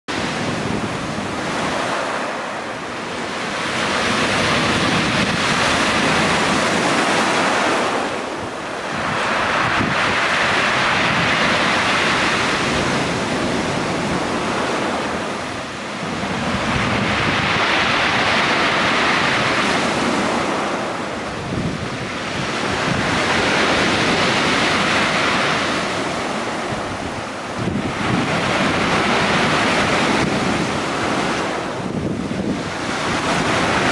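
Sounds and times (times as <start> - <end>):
wind on microphone: 0.1 - 33.9
surf breaking on pebble beach: 0.2 - 33.9.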